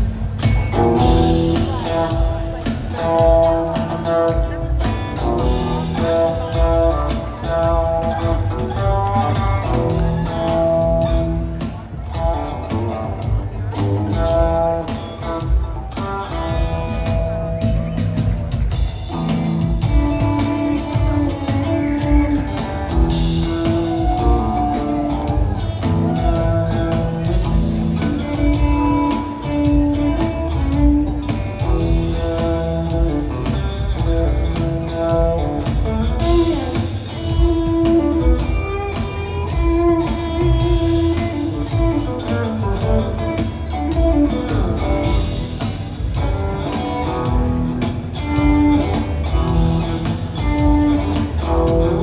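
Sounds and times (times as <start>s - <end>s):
bass: 0.0s - 52.0s
drums: 0.0s - 52.0s
electric guitar notes: 0.0s - 52.0s.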